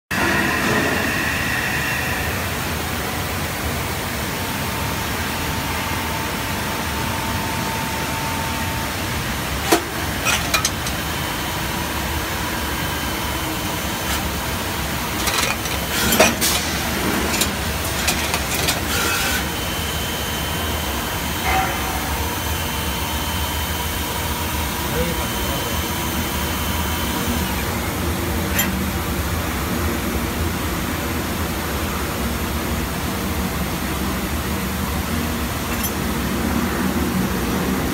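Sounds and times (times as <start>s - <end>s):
lathe machine hum: 0.1s - 30.5s.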